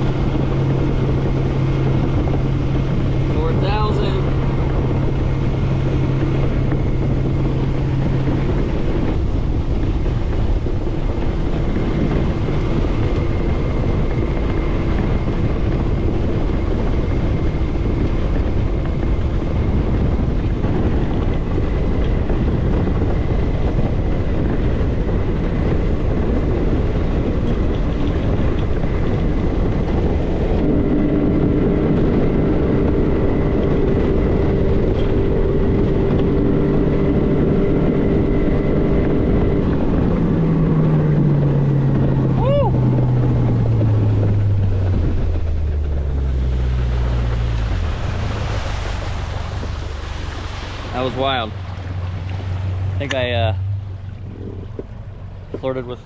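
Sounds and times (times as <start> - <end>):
outboard motor revving: 0.0 - 56.0.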